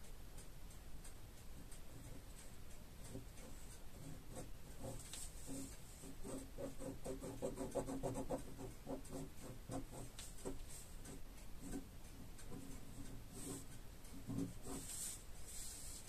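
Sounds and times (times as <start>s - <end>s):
ballpoint pen scratching on paper: 3.0s - 16.0s.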